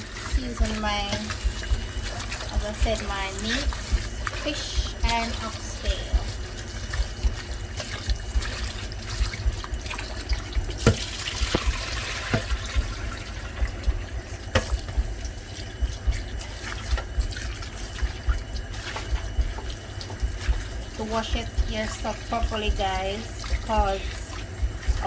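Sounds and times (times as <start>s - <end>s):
tap running into a sink: 0.1s - 25.0s.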